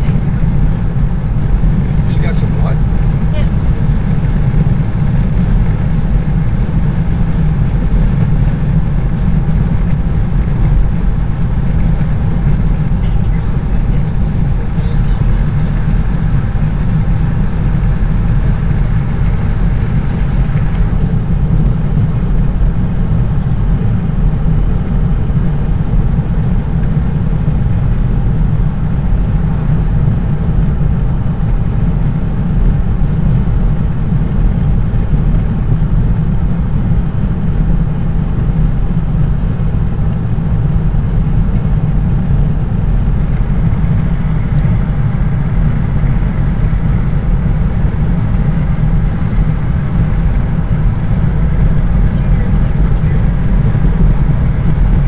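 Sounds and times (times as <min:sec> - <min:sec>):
car road noise at highway speed: 0:00.0 - 0:55.0.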